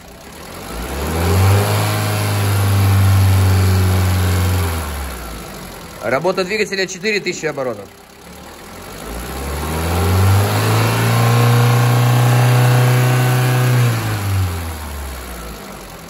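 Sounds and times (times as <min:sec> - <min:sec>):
car engine revving: 0:00.0 - 0:06.3, 0:07.8 - 0:16.0.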